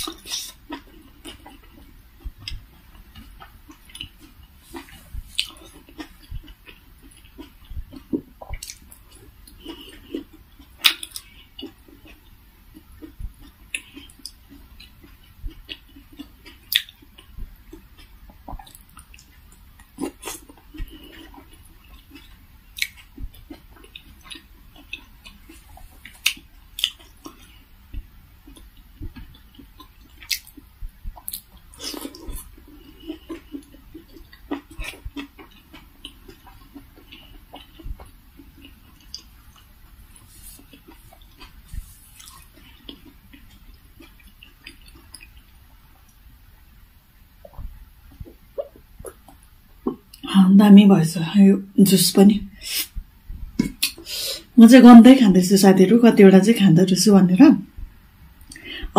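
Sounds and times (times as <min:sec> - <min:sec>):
person chewing: 0:00.0 - 0:46.2, 0:47.4 - 0:50.3, 0:52.6 - 0:54.5, 0:57.8 - 0:58.9.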